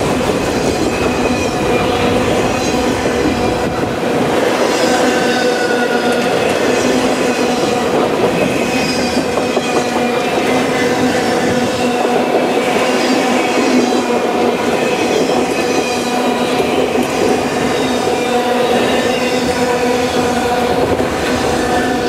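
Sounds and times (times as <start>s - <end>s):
steel wheels rumbling on rail: 0.0s - 22.0s.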